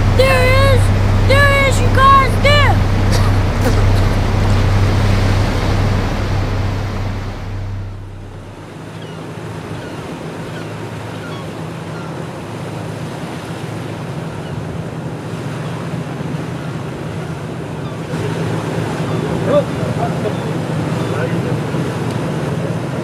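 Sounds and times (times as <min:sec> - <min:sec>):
boat engine drone: 0:00.0 - 0:23.0
sea waves washing: 0:00.0 - 0:23.0.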